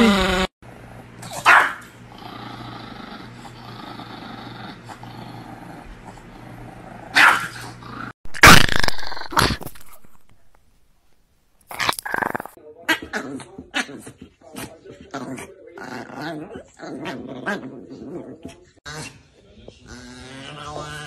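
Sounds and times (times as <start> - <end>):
dogs barking and growling: 0.0 - 10.4, 11.7 - 21.0.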